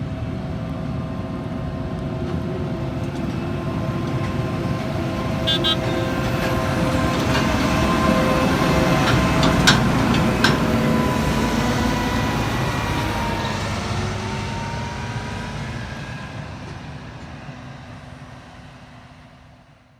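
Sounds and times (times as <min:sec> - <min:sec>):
heavy machine engine rumbling: 0:00.8 - 0:17.2.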